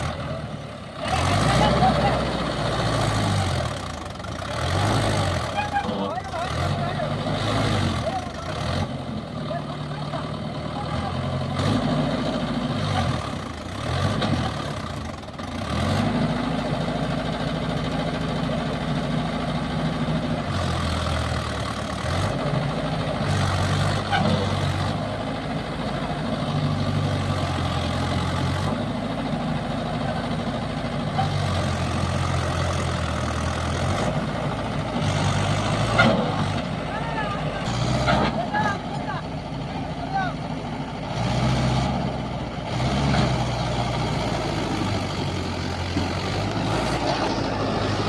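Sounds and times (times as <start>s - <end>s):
tractor diesel engine revving: 0.0s - 48.0s.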